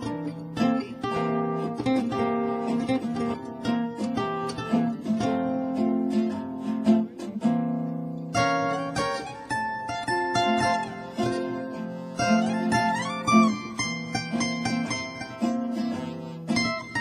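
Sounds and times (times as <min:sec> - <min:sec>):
guitar strumming chords: 0:00.0 - 0:17.0
plucked string melody: 0:00.0 - 0:17.0.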